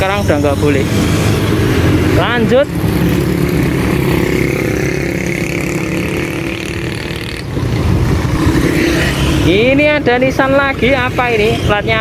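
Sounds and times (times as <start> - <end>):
cars and motorcycles passing: 0.0 - 12.0
vehicle engines running: 0.0 - 12.0.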